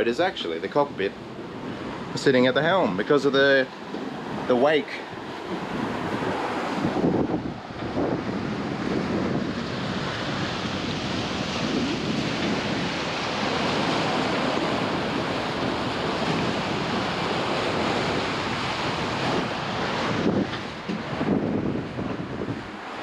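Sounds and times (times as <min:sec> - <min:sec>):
boat wake rushing and hissing: 0:00.0 - 0:23.0
wind buffeting microphone: 0:00.0 - 0:23.0.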